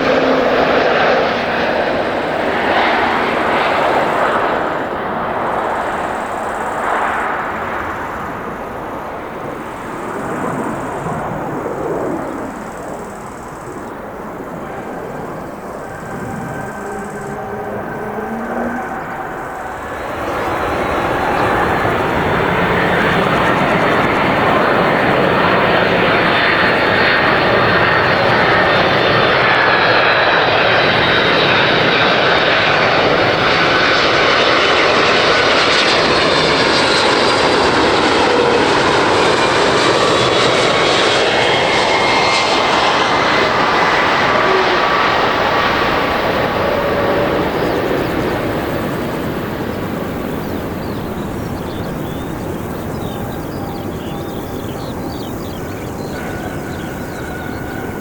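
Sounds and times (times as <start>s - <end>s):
jet engines passing close: 0.0s - 58.0s.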